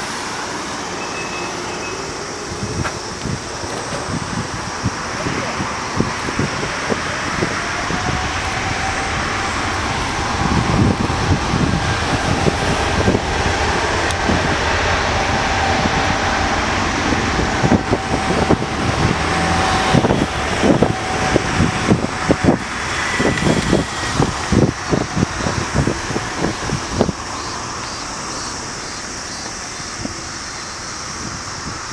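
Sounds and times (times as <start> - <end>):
jet engines roaring: 0.0 - 31.9
low rumbling pulses: 2.1 - 29.3.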